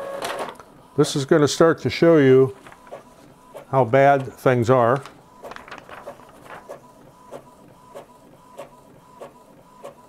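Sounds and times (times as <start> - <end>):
faint printer whine: 0.0 - 10.0.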